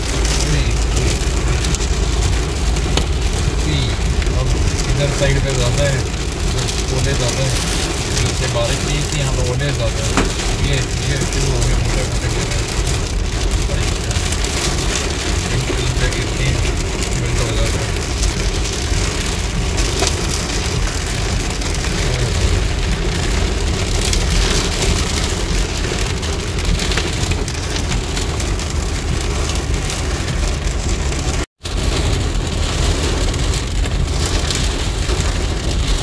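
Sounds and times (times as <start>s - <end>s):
low rumble of car: 0.0s - 36.0s
rain and hail on car roof: 0.0s - 36.0s.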